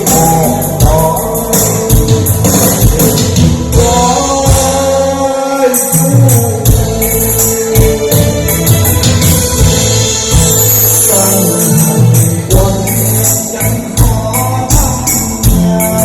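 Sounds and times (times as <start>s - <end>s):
backing track with steady beat: 0.0s - 16.0s
person singing: 0.0s - 16.0s.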